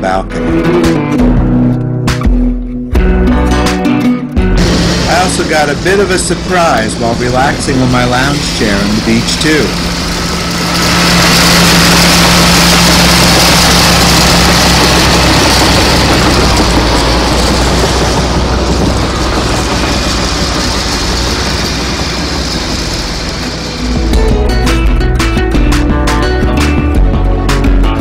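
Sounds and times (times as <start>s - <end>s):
diesel engine running: 4.4s - 28.0s.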